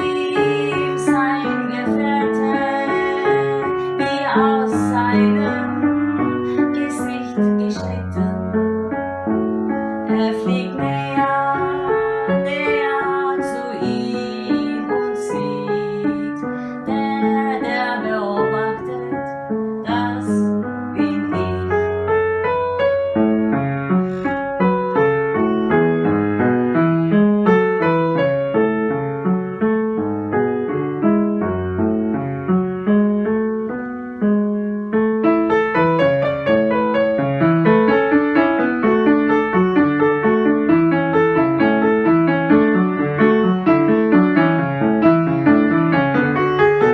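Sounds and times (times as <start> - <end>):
slow piano music: 0.0 - 46.9.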